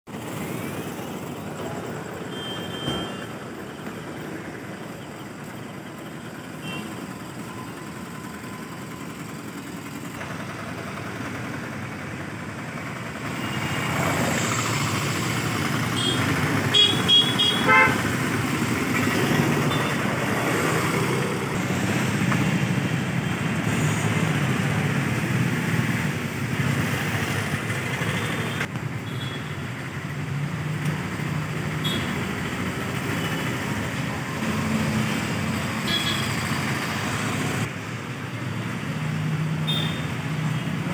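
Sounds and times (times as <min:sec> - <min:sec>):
passing traffic: 0:00.0 - 0:40.9.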